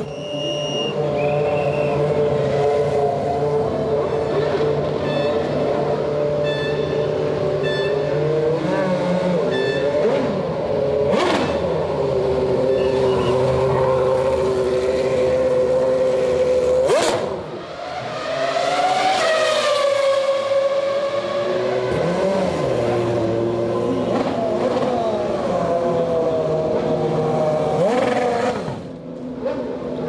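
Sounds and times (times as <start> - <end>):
car engine revving: 0.9 - 30.0.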